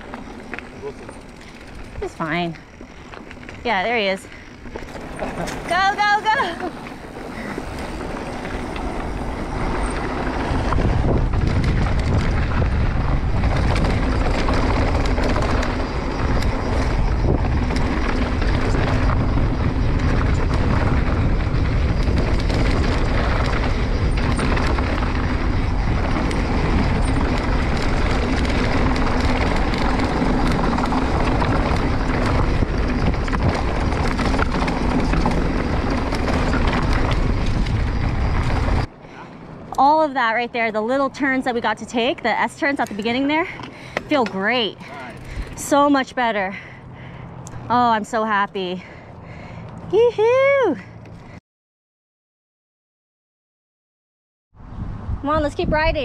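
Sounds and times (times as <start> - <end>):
wind buffeting microphone: 0.0 - 50.6, 54.6 - 56.0
bike tyres rolling on dirt: 0.0 - 51.4.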